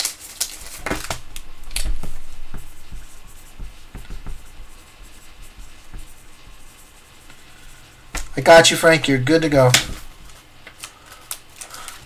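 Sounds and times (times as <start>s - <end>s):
light scratching: 0.6s - 10.5s.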